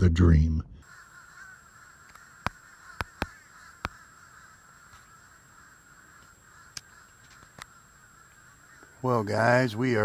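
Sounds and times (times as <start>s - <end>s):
distant birds calling: 0.8s - 10.0s.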